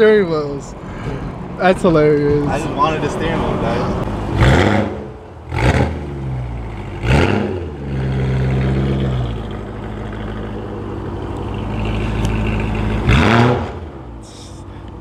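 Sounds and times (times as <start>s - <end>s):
car engine revving: 0.9s - 14.9s.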